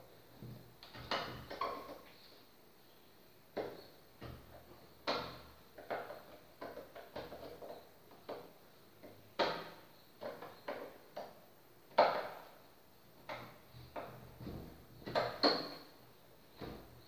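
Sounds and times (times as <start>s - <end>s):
knocks and clicks in electrical box: 0.4s - 2.1s, 3.5s - 12.6s, 13.2s - 15.9s, 16.5s - 17.0s.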